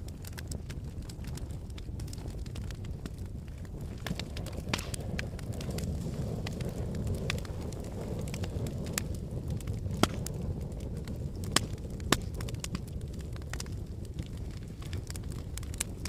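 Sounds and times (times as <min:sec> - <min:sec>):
fire crackles and pops: 0:00.0 - 0:16.0
low rush of flames: 0:00.0 - 0:16.0.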